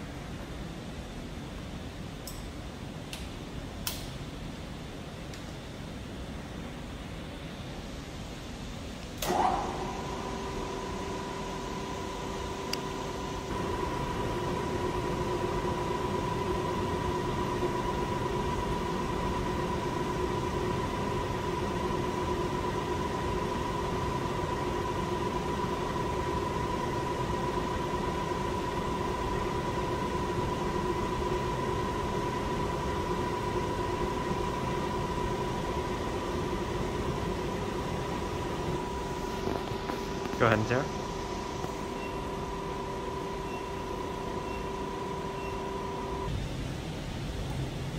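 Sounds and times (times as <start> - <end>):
mill spindle humming: 6.4 - 47.9.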